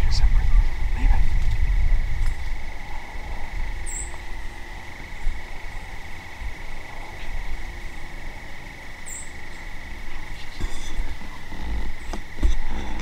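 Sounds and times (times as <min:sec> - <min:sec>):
crickets trilling: 0:00.0 - 0:13.0
low rumble: 0:00.0 - 0:13.0.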